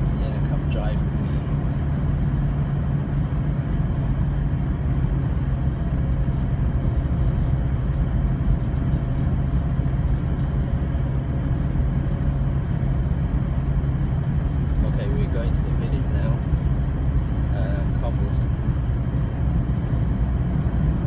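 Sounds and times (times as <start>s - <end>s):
car engine hum: 0.0s - 21.0s
tyre and road noise: 0.0s - 21.0s.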